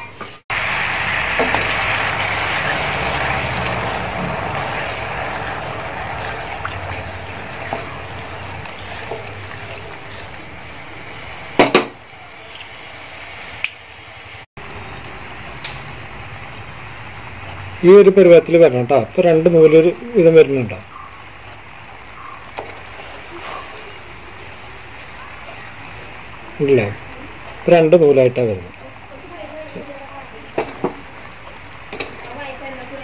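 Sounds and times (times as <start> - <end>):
syrup hissing and bubbling: 0.3 - 33.0.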